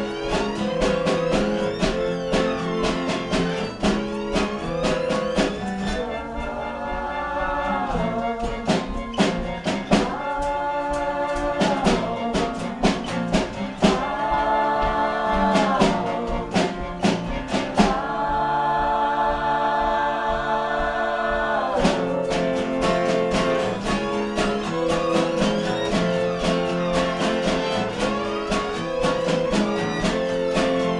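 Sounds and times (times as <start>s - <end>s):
acoustic guitars strumming: 0.0s - 30.9s
violin: 0.0s - 30.9s
voices singing together: 0.0s - 30.9s.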